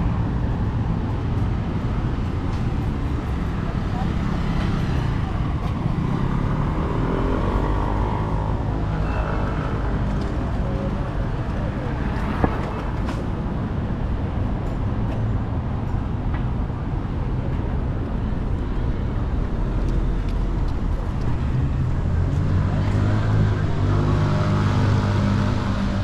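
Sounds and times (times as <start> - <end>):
traffic rumble: 0.0 - 26.0
vehicle engine hum: 0.0 - 26.0.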